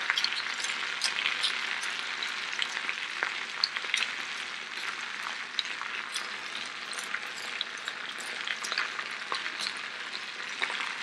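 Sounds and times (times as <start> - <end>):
oil popping and crackling: 0.0 - 11.0
vegetables sizzling in a skillet: 0.0 - 11.0.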